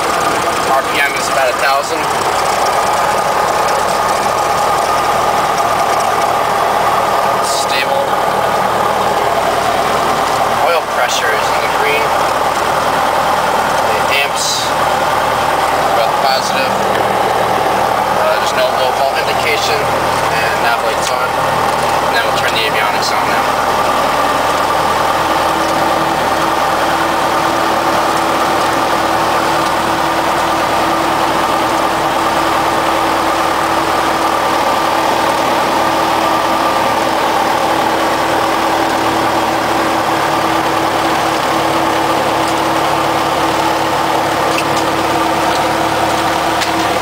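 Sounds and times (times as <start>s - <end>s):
aircraft engine idling: 0.0s - 47.0s
steady hum: 0.0s - 47.0s.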